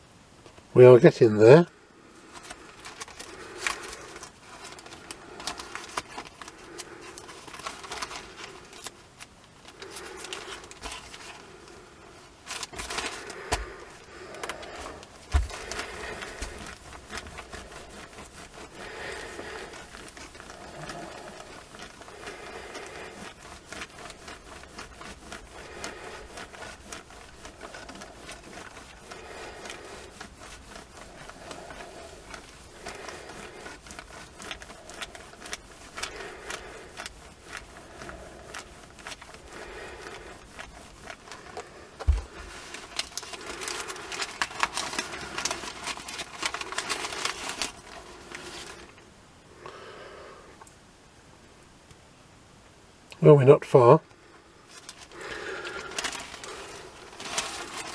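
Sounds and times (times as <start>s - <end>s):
newspaper pages rustling: 0.5s - 49.2s, 54.3s - 57.9s
iron swishing over newspaper: 1.5s - 49.0s, 54.6s - 57.9s.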